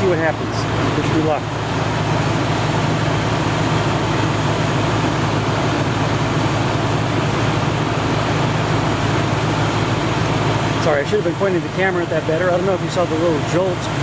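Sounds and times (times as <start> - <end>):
air conditioning hum: 0.0 - 14.0
car engine idling: 0.0 - 14.0.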